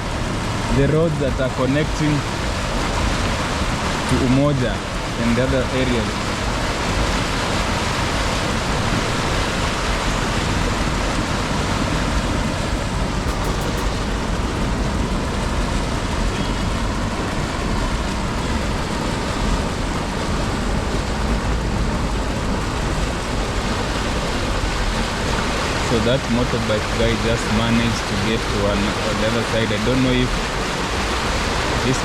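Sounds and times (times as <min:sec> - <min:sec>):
heavy rain: 0:00.0 - 0:32.0
rushing floodwater: 0:00.0 - 0:32.0.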